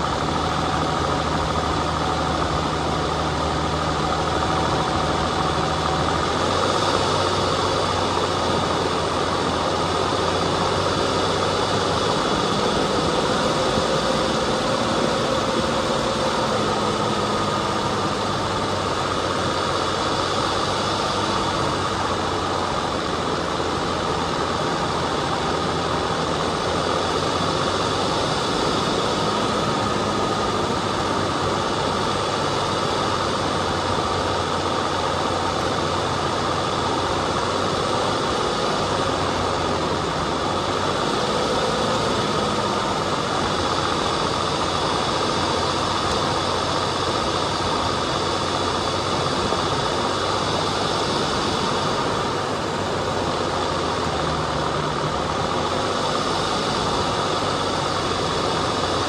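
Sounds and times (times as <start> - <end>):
high whine: 0.0 - 59.0
off-road vehicle engine running: 0.0 - 59.0.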